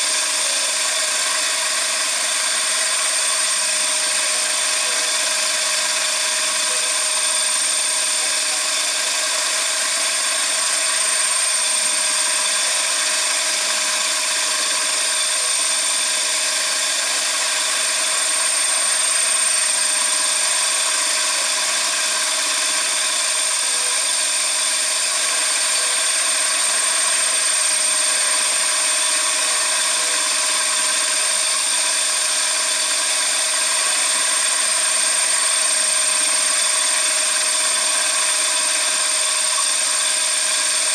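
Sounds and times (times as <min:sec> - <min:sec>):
machine high-pitched whine: 0:00.0 - 0:40.9.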